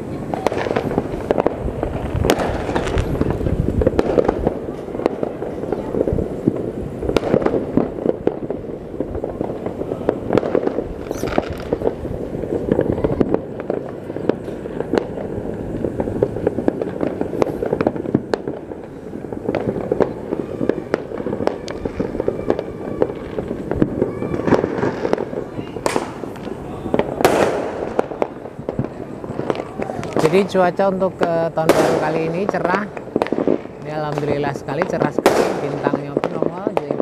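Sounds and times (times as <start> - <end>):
fireworks crackling and banging: 0.0 - 37.0.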